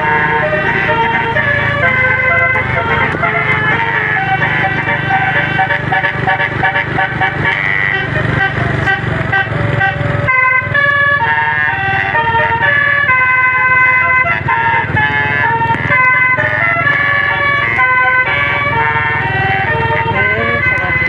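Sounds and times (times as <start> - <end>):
bus engine running: 0.0 - 21.0
bus horn playing melody: 0.0 - 21.0.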